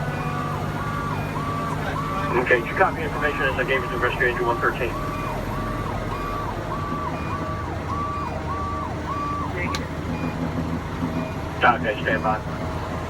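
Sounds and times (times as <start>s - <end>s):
fire engine siren wailing: 0.0s - 13.0s
truck engine rumble: 0.0s - 13.0s.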